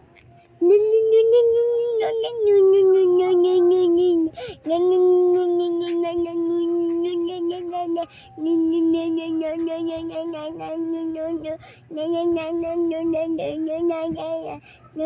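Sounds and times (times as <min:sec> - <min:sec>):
child singing long notes: 0:00.6 - 0:15.0.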